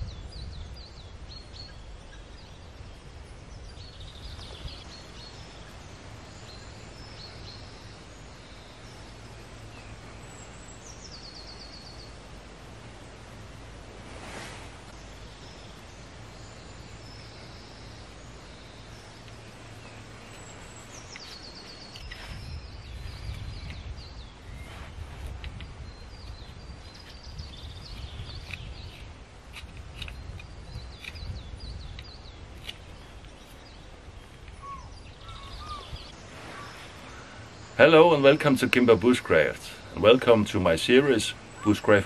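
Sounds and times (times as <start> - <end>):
gusty wind rumble: 0.0 - 38.2
small birds chirping: 0.0 - 42.0.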